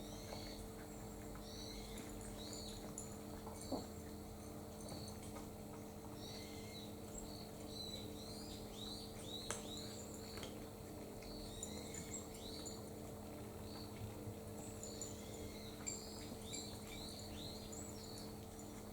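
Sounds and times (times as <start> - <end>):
small birds chirping: 0.0 - 5.3, 6.1 - 10.6, 11.2 - 12.9, 13.5 - 18.8
steady low hum: 0.0 - 18.9.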